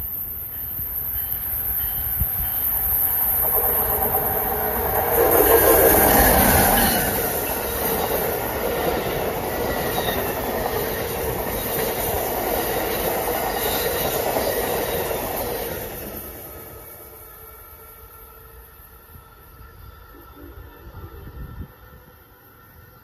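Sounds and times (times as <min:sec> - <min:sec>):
passenger train passing at speed: 0:00.0 - 0:23.0.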